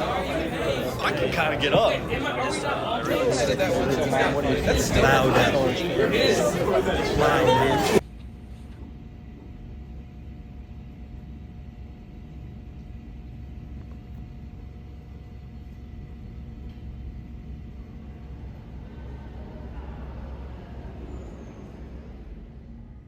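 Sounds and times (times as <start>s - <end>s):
faint even hum: 0.0s - 8.0s, 12.5s - 23.0s.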